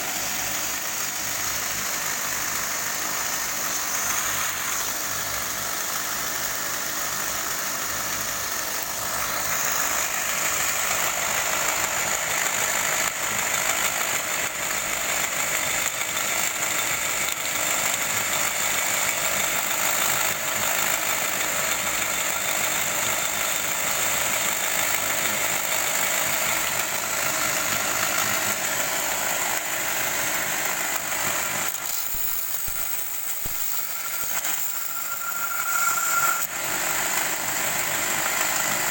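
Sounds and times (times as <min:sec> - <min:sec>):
belt grinder whining: 0:00.0 - 0:38.9.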